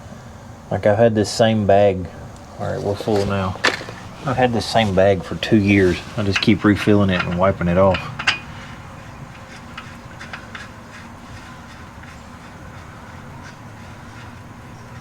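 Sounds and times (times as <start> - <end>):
steady low hum: 0.0 - 15.0
light handling noises: 2.2 - 15.0.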